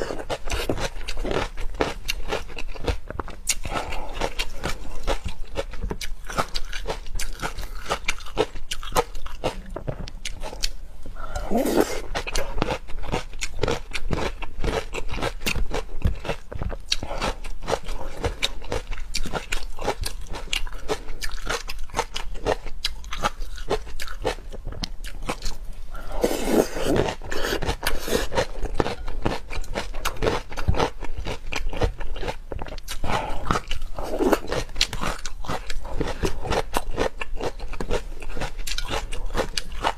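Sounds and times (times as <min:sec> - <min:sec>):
crunching and chewing shrimp: 0:00.0 - 0:39.9.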